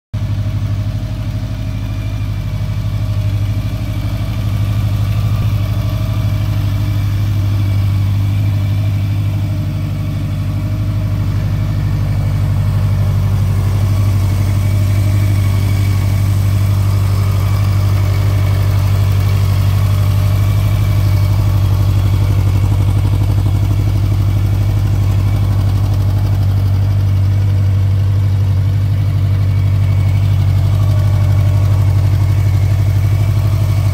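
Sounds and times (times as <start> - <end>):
motorcycle engine idling: 0.2 - 33.9.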